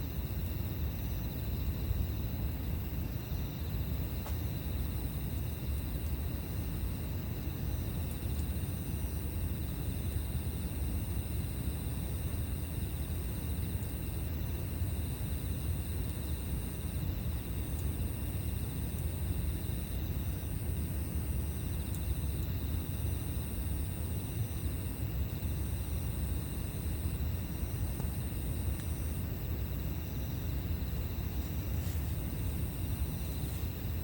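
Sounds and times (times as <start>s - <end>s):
insects trilling: 0.0s - 34.0s
campfire crackle: 4.2s - 34.0s.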